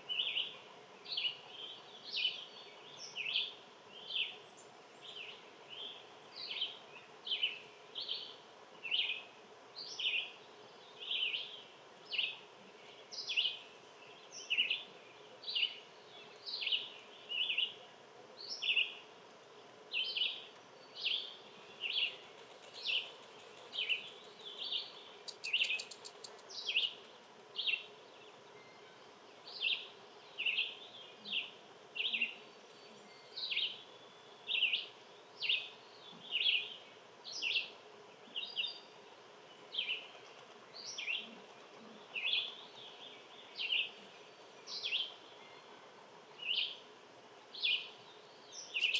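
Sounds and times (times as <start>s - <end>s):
faint steady hum: 0.0s - 48.9s
songbird chirping: 0.0s - 48.9s.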